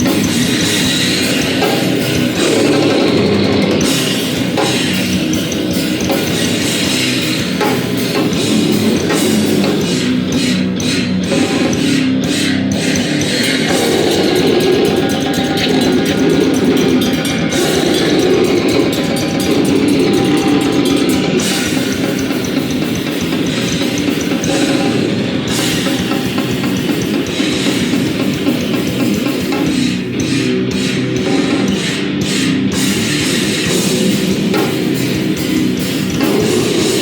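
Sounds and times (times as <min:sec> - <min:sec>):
heavy rock band playing: 0:00.0 - 0:37.0.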